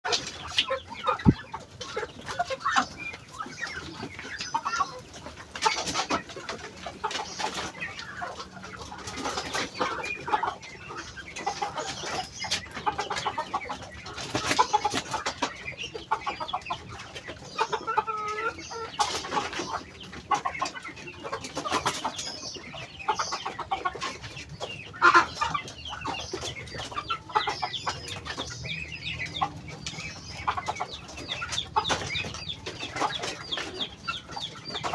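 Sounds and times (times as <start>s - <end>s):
duck bills clicking and pecking: 0.1s - 34.9s.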